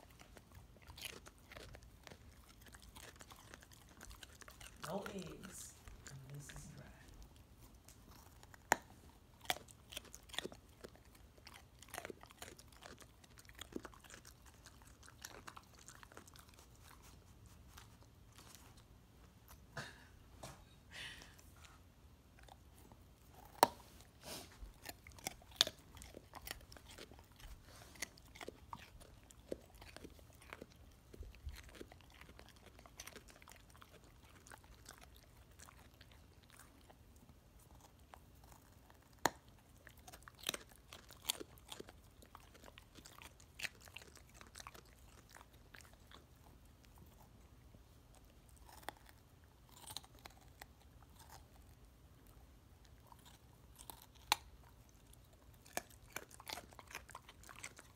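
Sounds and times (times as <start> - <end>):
dog crunching a carrot: 0.0 - 19.7, 22.2 - 57.9.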